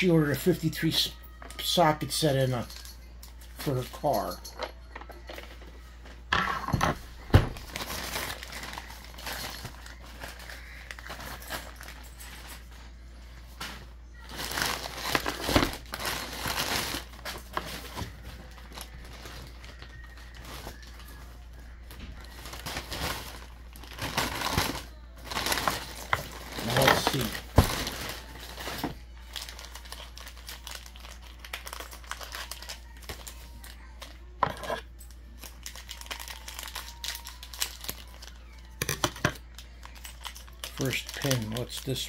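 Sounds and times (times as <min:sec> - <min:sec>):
plastic bag crinkling: 0:07.5 - 0:42.0.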